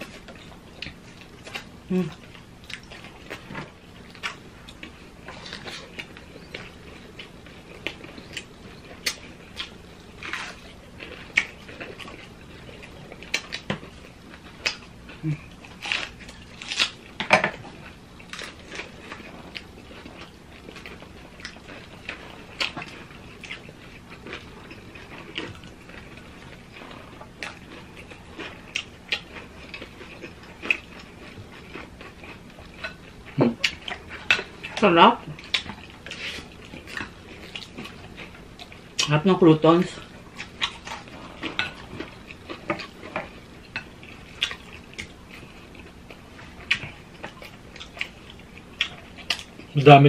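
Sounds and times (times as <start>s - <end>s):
chewing and crunching fried food: 0.0s - 50.0s.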